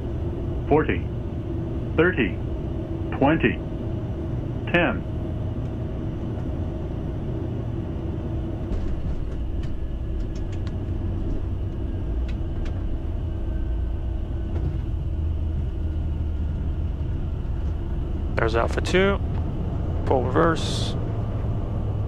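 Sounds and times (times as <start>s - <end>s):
jet cockpit rumble on landing: 0.0s - 22.0s.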